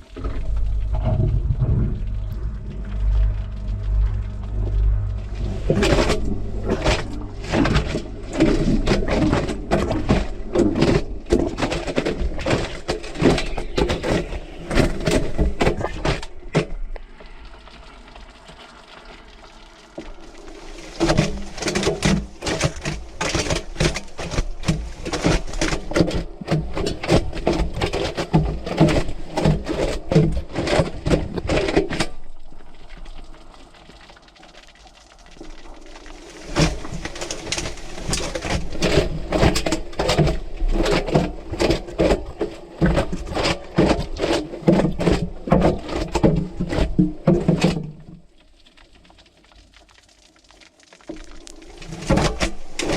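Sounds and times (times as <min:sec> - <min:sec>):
low motor hum: 0:00.0 - 0:34.0, 0:35.4 - 0:48.3.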